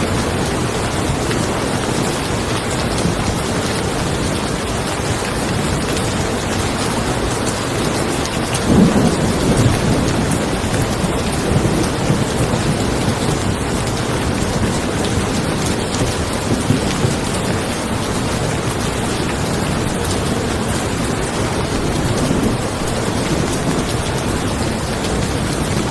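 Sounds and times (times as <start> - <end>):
steady rain falling: 0.0 - 25.9
thunder rumbling: 0.0 - 25.9.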